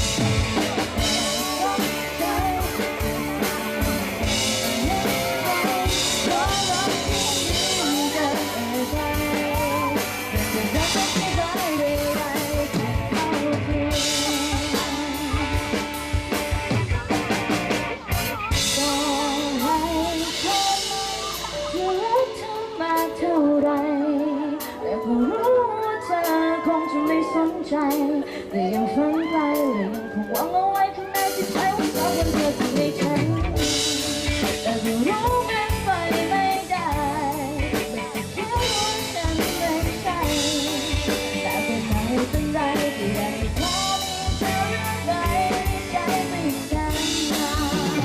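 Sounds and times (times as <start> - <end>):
drum kit: 0.0 - 48.0
live band playing pop-rock: 0.0 - 48.0
person singing: 0.0 - 48.0.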